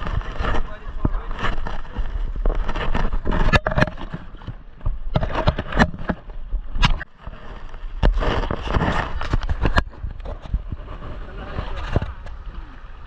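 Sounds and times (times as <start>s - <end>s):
paddles splashing and knocking: 0.0s - 13.0s.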